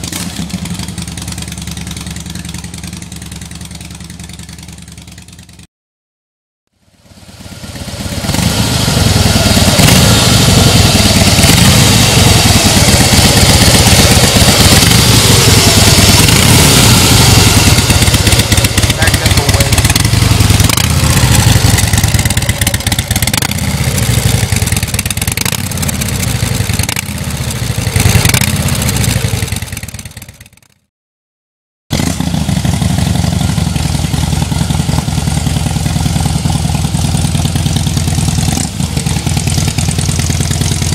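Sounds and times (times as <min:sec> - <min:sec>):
motorcycle engine running loud: 0:00.0 - 0:05.7, 0:06.8 - 0:30.9, 0:31.9 - 0:40.9.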